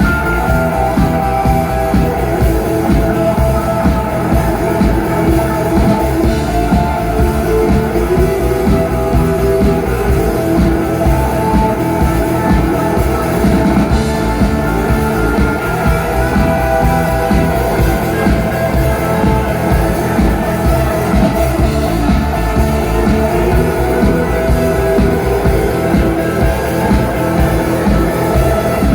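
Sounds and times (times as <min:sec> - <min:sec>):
drum kit beat: 0:00.0 - 0:28.9
electric guitar: 0:00.0 - 0:28.9.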